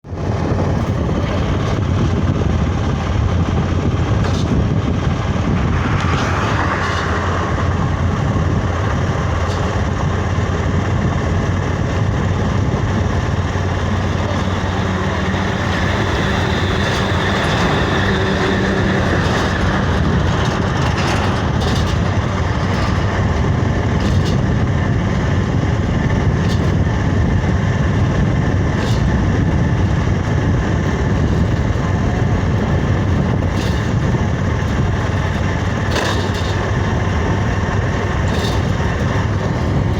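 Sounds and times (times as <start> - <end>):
road or wind noise: 0.0 - 39.9
vehicle engine rumble: 0.0 - 39.9.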